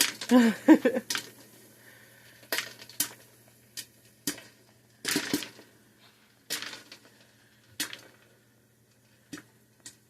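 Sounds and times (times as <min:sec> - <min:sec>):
popcorn popping: 0:00.0 - 0:10.0.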